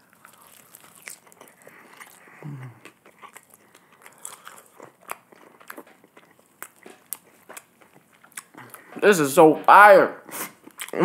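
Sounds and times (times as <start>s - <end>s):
open-mouthed chewing: 0.0s - 9.0s, 10.2s - 11.0s.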